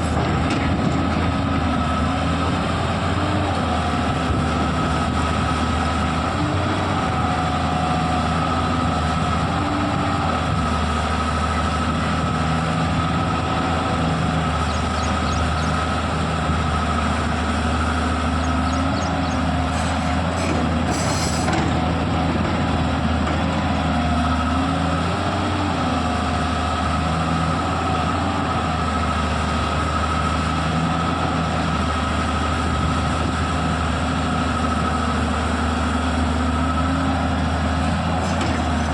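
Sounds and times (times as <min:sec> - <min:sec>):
excavator diesel engine hum: 0:00.0 - 0:38.9.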